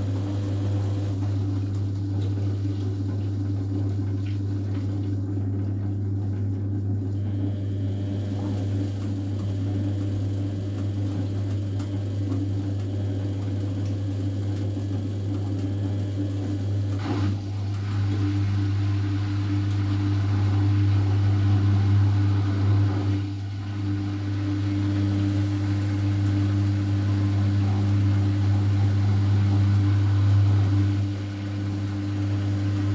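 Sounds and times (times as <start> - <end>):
appliance electrical hum: 0.0 - 32.9.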